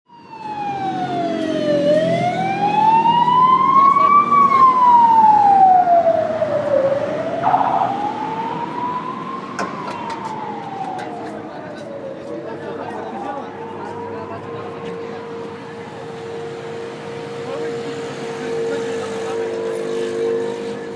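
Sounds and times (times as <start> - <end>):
emergency siren wailing: 0.1 - 20.9
street traffic: 0.1 - 20.9.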